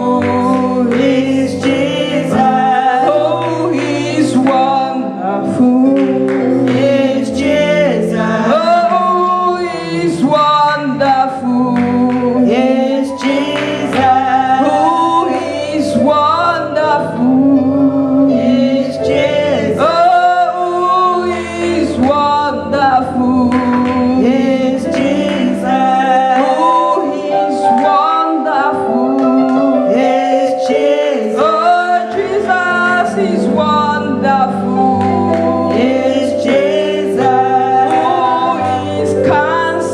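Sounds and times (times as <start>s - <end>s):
church choir singing: 0.0s - 39.9s
low accompaniment: 0.0s - 39.9s.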